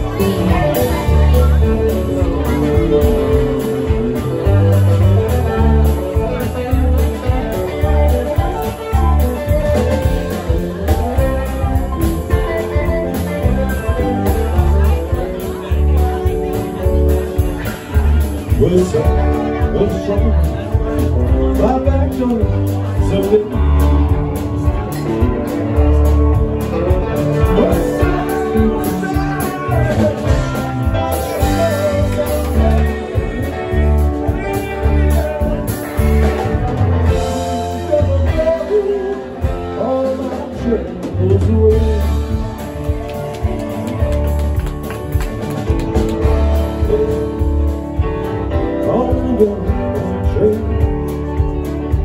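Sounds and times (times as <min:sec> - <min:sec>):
person singing: 0:00.0 - 0:44.3, 0:46.2 - 0:52.0
bass line: 0:00.0 - 0:52.0
drum kit: 0:00.0 - 0:52.0
electric guitars: 0:00.0 - 0:52.0
keyboard: 0:00.0 - 0:52.0.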